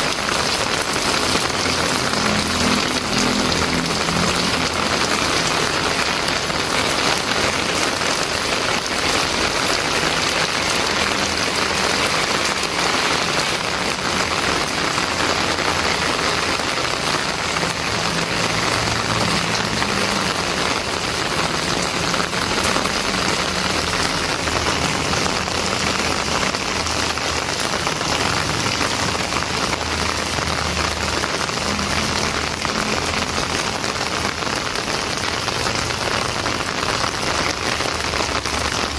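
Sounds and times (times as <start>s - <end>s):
heavy rain on pavement and roofs: 0.0s - 38.9s.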